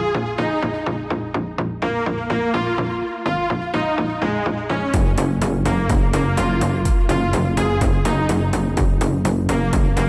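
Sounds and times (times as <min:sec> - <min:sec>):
fast synthesizer notes: 0:00.0 - 0:10.0
low pulsing bass: 0:00.0 - 0:10.0.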